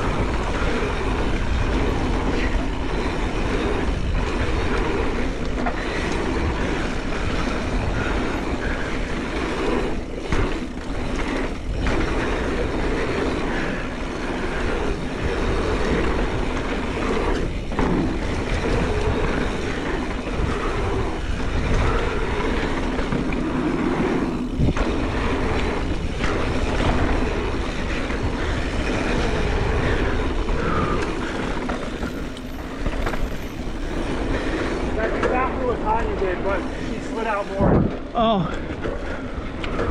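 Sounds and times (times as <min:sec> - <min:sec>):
bike clattering: 0:00.0 - 0:39.9
bike tyres rumbling over dirt: 0:00.0 - 0:39.9.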